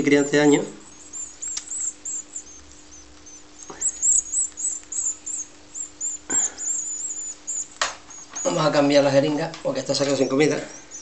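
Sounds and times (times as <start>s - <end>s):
nestlings cheeping: 0.0s - 11.0s.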